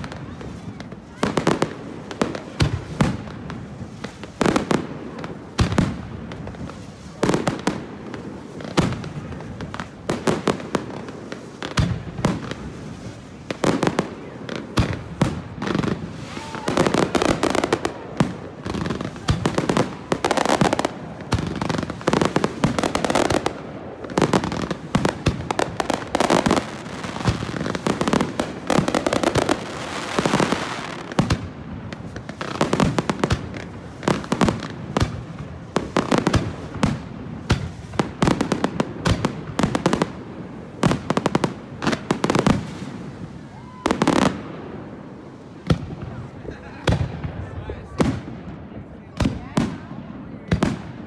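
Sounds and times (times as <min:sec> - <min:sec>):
fireworks booming: 0:00.0 - 0:51.0
fireworks crackling: 0:00.0 - 0:51.0.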